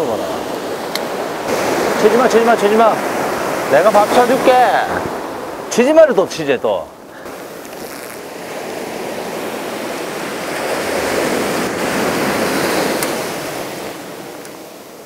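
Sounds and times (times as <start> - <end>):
wave washing up the shore: 0.0 - 15.0.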